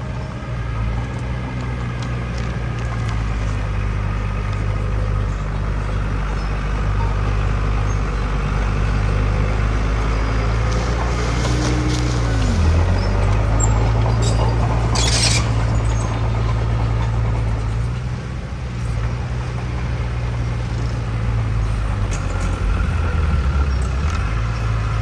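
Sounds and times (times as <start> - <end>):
diesel machinery droning: 0.0 - 25.0.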